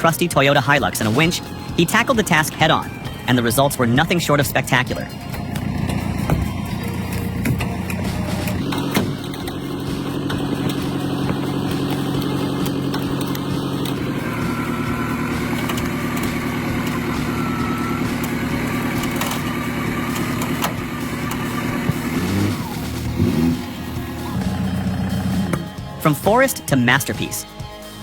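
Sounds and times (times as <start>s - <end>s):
pickup engine running: 0.0s - 28.0s.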